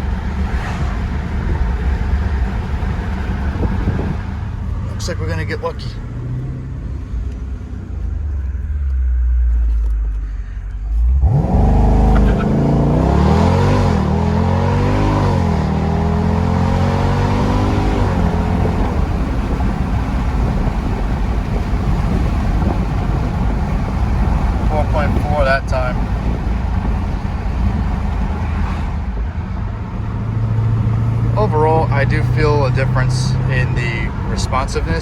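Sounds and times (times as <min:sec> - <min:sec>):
car engine rumbling and accelerating: 0:00.0 - 0:35.0.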